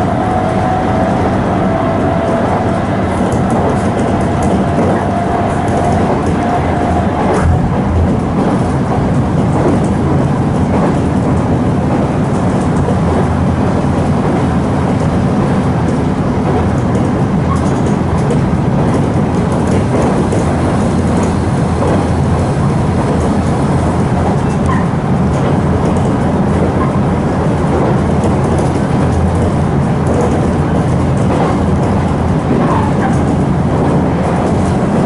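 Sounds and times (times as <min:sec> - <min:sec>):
electric train running: 0:00.0 - 0:35.0.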